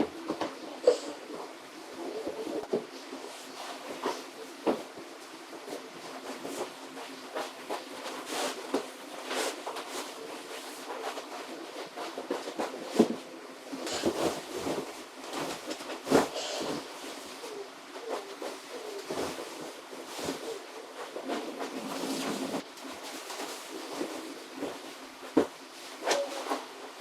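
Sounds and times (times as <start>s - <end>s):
rustling and clicks of handling: 2.3s - 27.0s.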